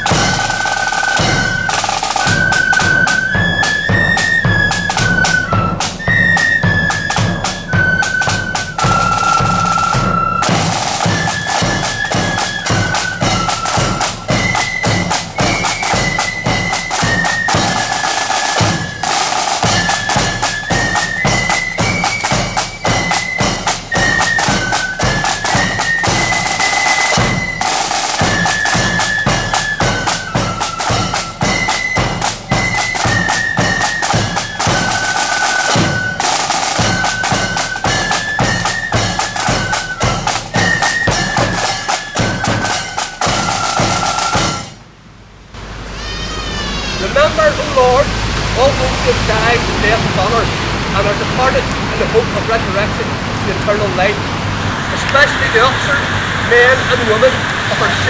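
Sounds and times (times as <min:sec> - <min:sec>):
rapid drumming: 0:00.0 - 0:44.8, 0:45.6 - 0:58.0
wind instrument melody: 0:00.0 - 0:44.9, 0:45.6 - 0:58.0
marching band playing: 0:00.0 - 0:58.0.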